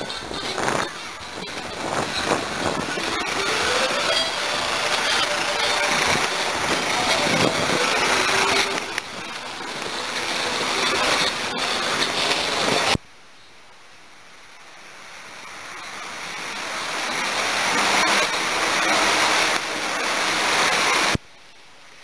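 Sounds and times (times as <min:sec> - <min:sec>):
loud outdoor rushing noise: 0:00.0 - 0:13.0, 0:14.5 - 0:21.2.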